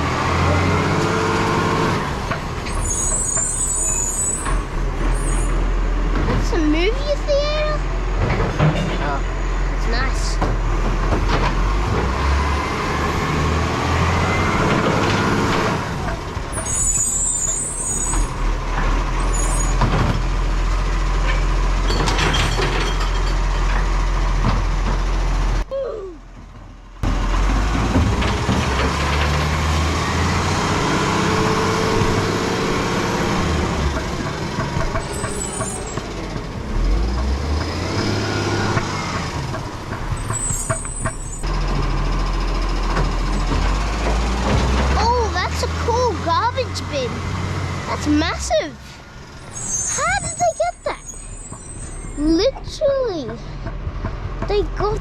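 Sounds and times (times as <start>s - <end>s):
garbage truck diesel engine revving: 0.0s - 25.6s, 26.8s - 55.0s.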